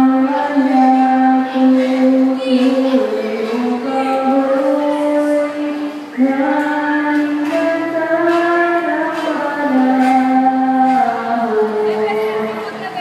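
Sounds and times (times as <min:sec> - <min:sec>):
person singing slow melody: 0:00.0 - 0:12.7.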